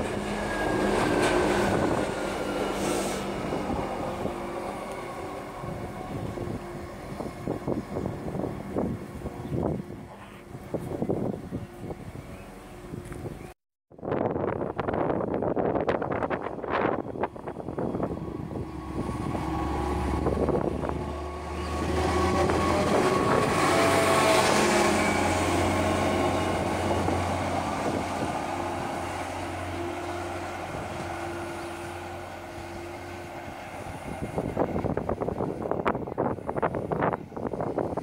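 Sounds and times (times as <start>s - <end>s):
diesel train passing: 0.0s - 38.0s.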